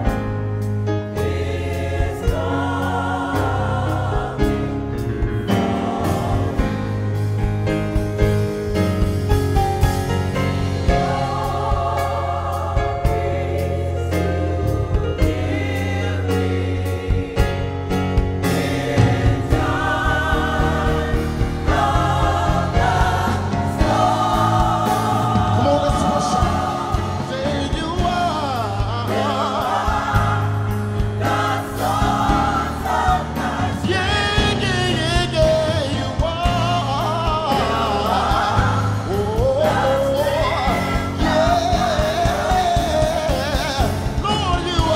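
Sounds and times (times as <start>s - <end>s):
gospel choir singing: 0.0s - 44.9s
instrumental accompaniment with bass: 0.0s - 44.9s.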